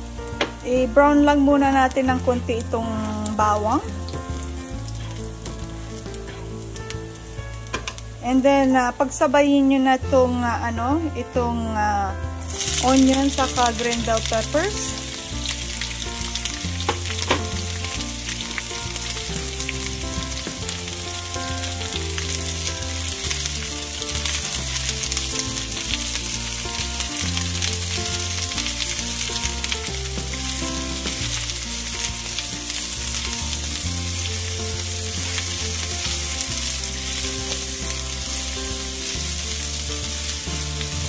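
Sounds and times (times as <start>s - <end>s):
vegetables sizzling in hot oil: 0.0s - 41.0s
vegetables clattering into pan: 0.3s - 0.7s, 2.6s - 8.3s, 12.4s - 41.0s.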